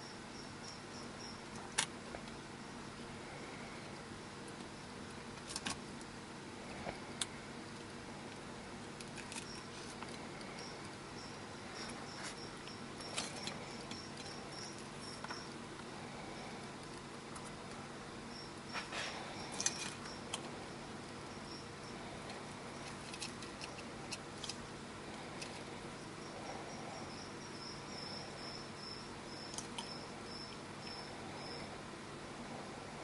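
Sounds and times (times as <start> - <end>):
faint hum: 0.0 - 33.0.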